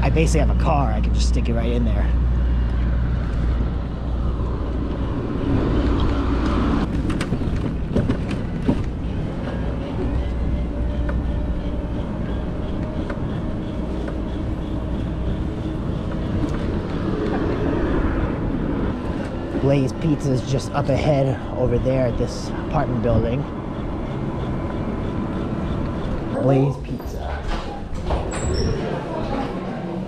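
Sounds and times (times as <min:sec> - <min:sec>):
city traffic: 0:00.0 - 0:30.0.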